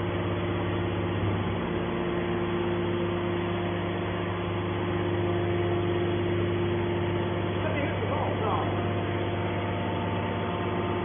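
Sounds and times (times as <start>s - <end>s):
hydraulic baler humming: 0.0s - 11.0s.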